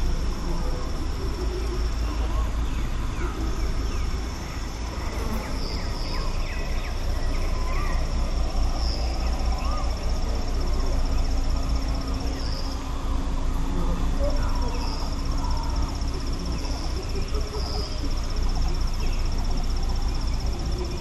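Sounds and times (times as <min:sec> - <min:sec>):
insect high trill: 0:00.0 - 0:21.0.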